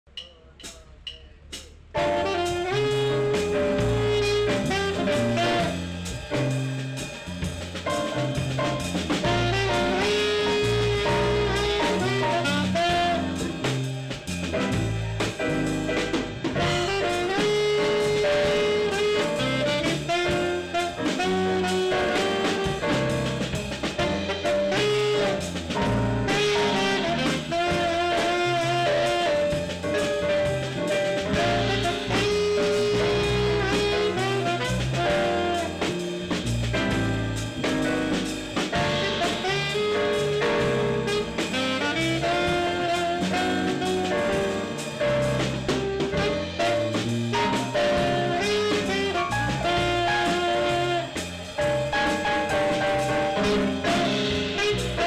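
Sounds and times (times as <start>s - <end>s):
bass: 0.0s - 55.0s
drum kit: 0.1s - 55.0s
electric keyboard: 2.0s - 55.0s
saxophone melody: 2.0s - 55.0s.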